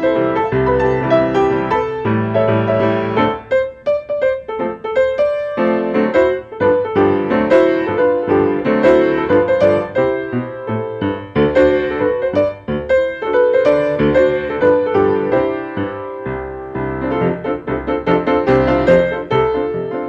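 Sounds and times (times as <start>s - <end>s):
grand piano playing: 0.0s - 20.0s.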